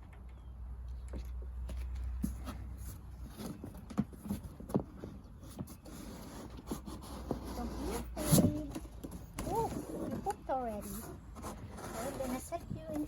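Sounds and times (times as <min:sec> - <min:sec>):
hens scuffling in cardboard box: 0:02.2 - 0:13.0.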